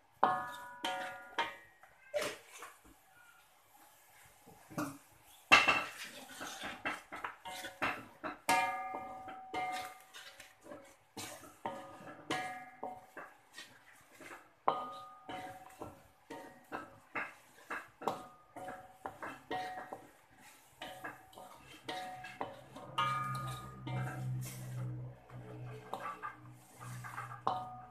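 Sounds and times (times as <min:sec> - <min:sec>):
spatula scraping metal wok: 0:00.2 - 0:02.8, 0:04.2 - 0:27.9.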